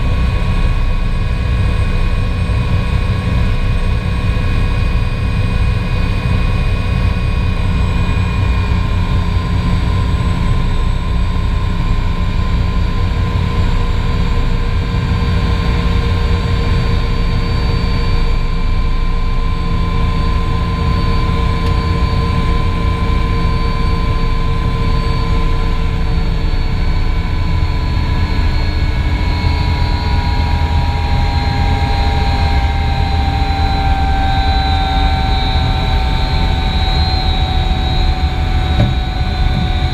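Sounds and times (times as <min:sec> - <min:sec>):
helicopter turbine whine and rumble: 0:00.0 - 0:39.9.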